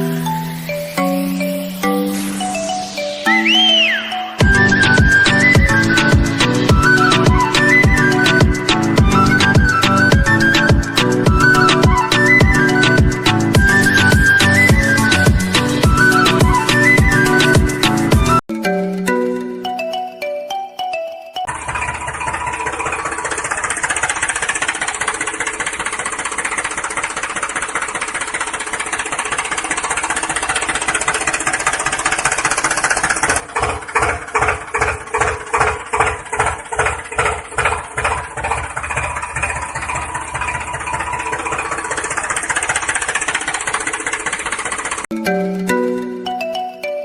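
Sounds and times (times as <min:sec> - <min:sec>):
engine running and chugging: 0:00.0 - 0:18.5, 0:21.4 - 0:46.7.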